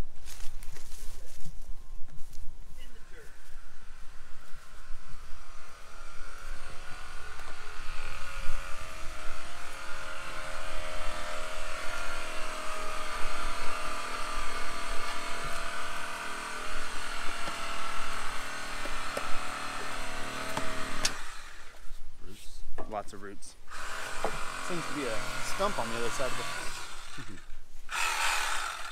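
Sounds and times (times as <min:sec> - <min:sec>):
motor running steadily: 0:02.8 - 0:21.8, 0:23.7 - 0:28.9.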